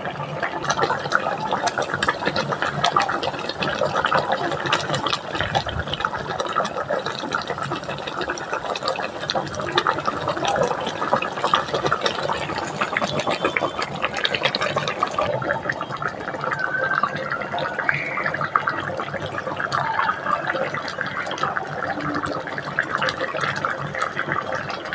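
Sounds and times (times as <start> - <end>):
water popping and splashing: 0.1 - 24.9.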